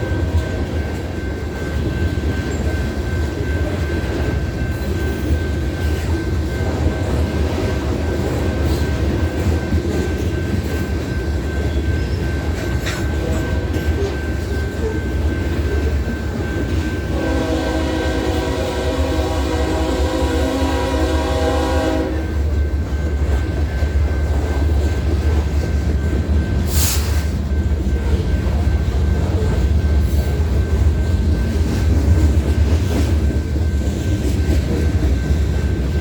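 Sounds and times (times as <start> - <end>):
steel wheels rumbling on rail: 0.0 - 36.0.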